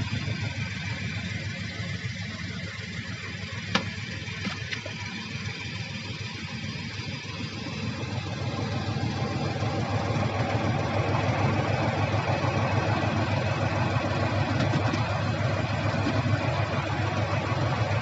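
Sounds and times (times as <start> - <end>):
heavy machinery diesel engine running: 0.0 - 18.0.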